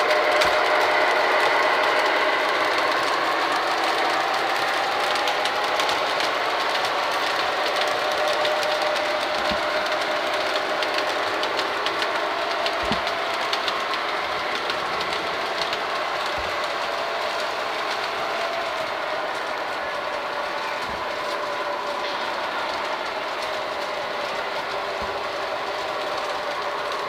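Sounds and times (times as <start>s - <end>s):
model train wheels rumbling: 0.0s - 27.0s.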